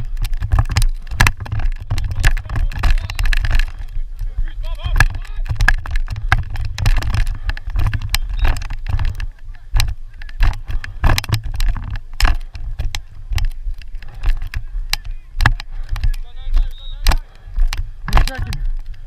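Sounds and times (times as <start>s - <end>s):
sharp clacks and knocks: 0.0s - 19.0s
wind rumbling on microphone: 0.0s - 19.0s
faint voices: 1.0s - 19.0s.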